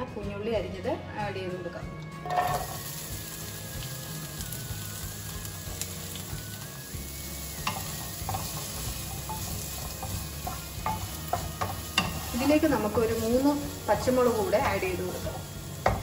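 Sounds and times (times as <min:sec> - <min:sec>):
shallots sizzling in oil: 0:02.2 - 0:16.0.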